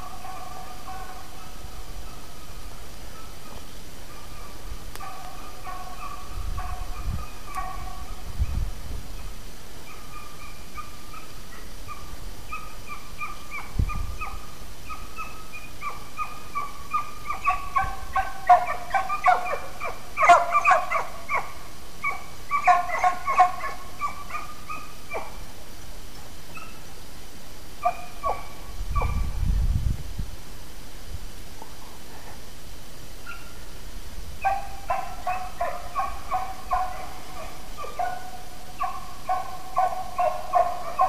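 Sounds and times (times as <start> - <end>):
hounds baying: 0.0 - 8.6, 9.2 - 25.5, 26.5 - 26.9, 27.8 - 29.3, 33.2 - 33.6, 34.4 - 41.0.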